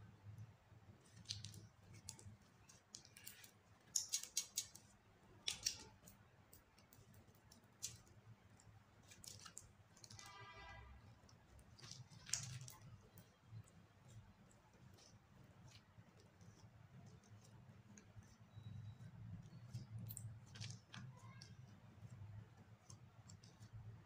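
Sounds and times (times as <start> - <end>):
buzzy slime squelch: 0.0 - 24.0
slime crackling and clicking: 1.0 - 10.4, 11.2 - 23.8.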